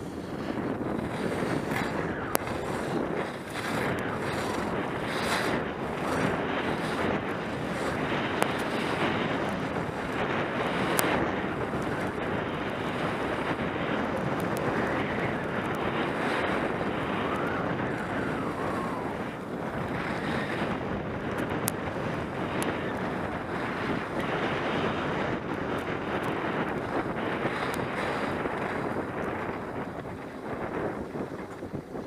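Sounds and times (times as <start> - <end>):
skis scraping on snow: 0.0 - 32.0
wind on microphone: 0.0 - 32.0.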